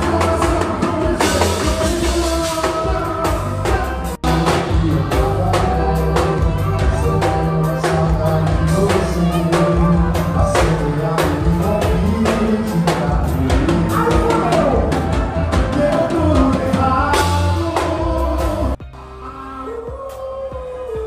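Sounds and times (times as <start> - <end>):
man and woman singing duet: 0.0 - 15.0, 15.6 - 21.0
accordion: 0.0 - 20.7
forro band playing: 0.0 - 21.0
keyboard: 0.0 - 21.0
steady drum kit beat: 0.0 - 21.0.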